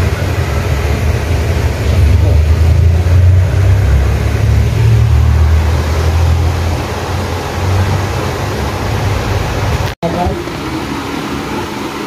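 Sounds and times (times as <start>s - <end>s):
loud low rumble: 0.0s - 9.9s.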